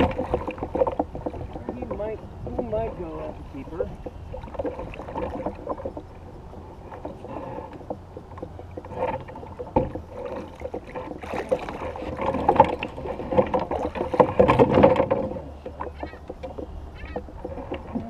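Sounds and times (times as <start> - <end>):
knocks and rattles on boat: 0.0 - 18.0
water sloshing: 0.0 - 18.0.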